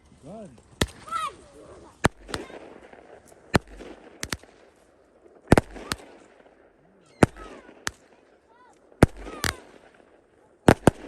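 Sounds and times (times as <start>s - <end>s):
faint fireworks crackling: 0.0s - 11.0s
fireworks bangs: 0.7s - 11.0s.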